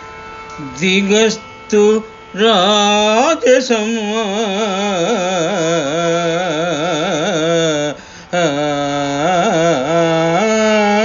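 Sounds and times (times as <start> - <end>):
man singing unaccompanied: 0.6 - 11.0.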